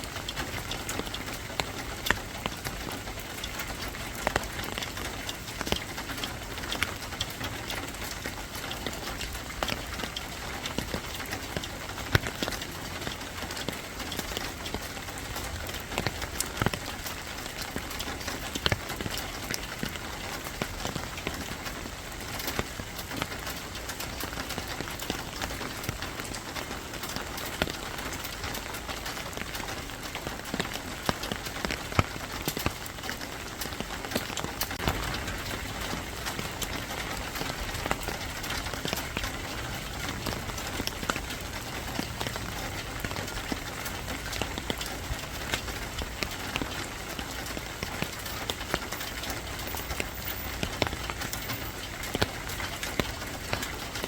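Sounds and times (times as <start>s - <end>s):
rain on hard surface: 0.0s - 54.0s.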